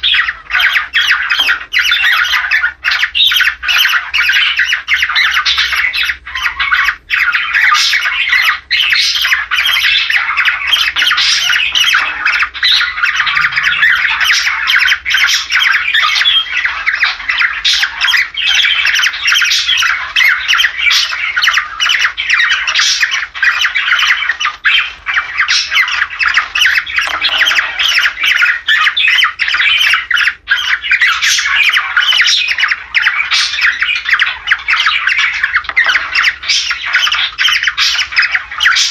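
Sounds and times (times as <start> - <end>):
cockatiels squawking and chattering: 0.0 - 38.9.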